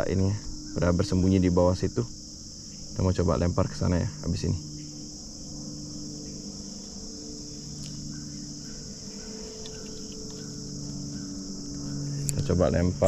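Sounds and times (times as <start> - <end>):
faint low hum: 0.0 - 13.0
insect chorus buzzing: 0.0 - 13.0.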